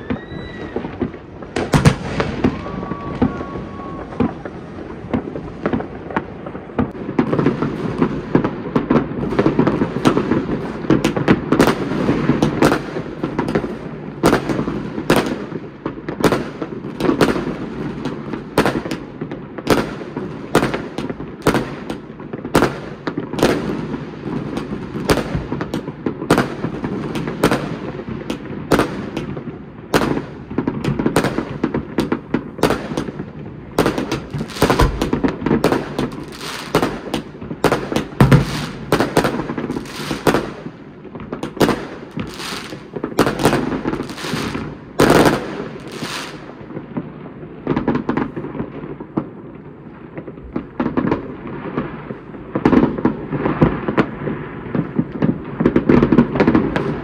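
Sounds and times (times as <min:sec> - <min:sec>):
fireworks bangs and pops: 0:00.0 - 0:57.0.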